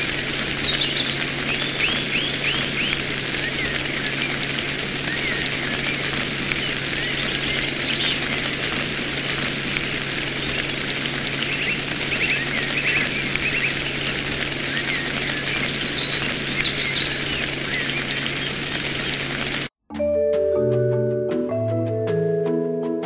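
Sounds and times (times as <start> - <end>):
birds chirping: 0.0 - 19.7
steady hiss: 0.0 - 19.7.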